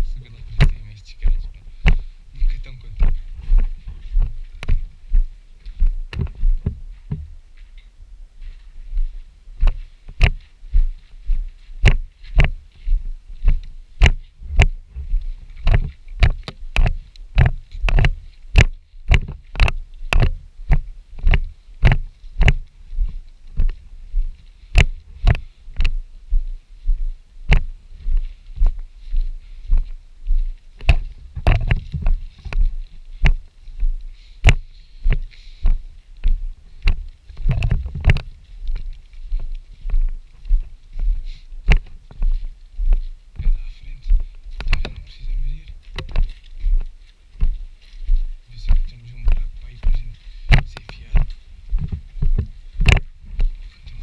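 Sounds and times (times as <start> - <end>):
walking footsteps: 0.0 - 54.0.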